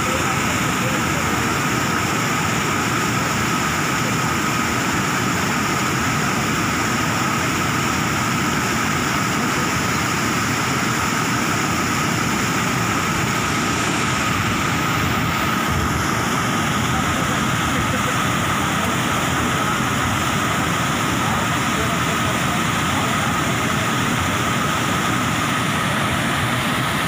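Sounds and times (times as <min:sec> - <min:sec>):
water rushing over a weir: 0:00.0 - 0:27.0.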